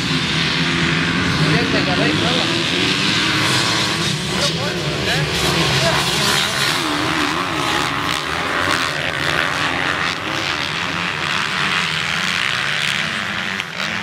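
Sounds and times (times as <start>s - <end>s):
motocross bike engines buzzing: 0.0s - 14.0s
motorbike engine revving: 0.0s - 14.0s.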